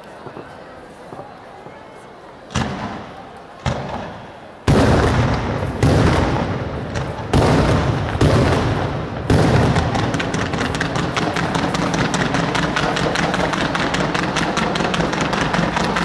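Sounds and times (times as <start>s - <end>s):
fireworks bangs with rumbling echo: 2.4s - 16.0s.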